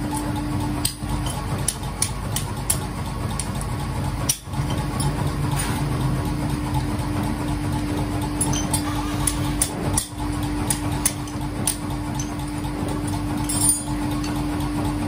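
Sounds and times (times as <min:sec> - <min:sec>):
workshop machinery humming: 0:00.0 - 0:15.0.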